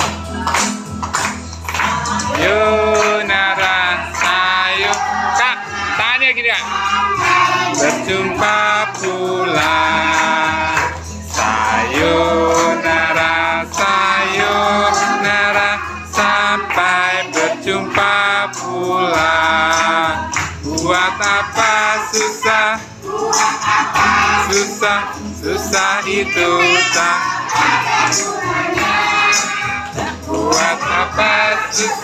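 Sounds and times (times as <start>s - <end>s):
person singing: 2.1s - 32.0s.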